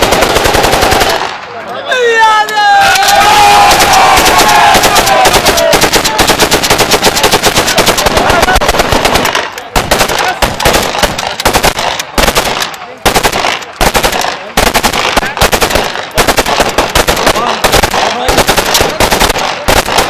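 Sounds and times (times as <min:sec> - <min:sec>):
automatic gunfire bursts: 0:00.0 - 0:01.4, 0:03.6 - 0:20.0.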